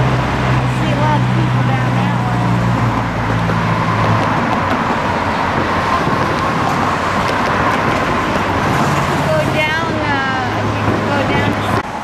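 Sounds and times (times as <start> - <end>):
cars driving past: 0.0 - 12.0
engine hum: 0.0 - 12.0.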